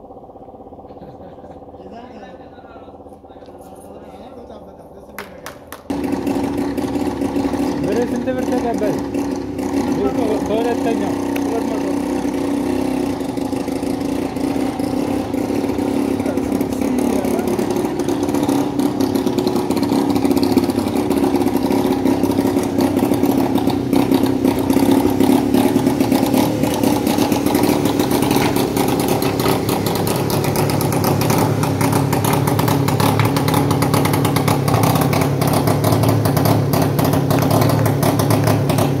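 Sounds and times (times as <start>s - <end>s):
small engine running rattly: 0.0s - 39.0s.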